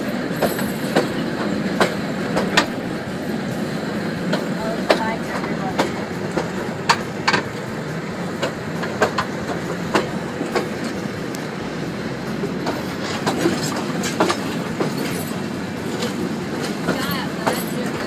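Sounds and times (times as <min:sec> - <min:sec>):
train wheels clicking and clacking: 0:00.0 - 0:18.0
train wheels rumbling on track: 0:00.0 - 0:18.0.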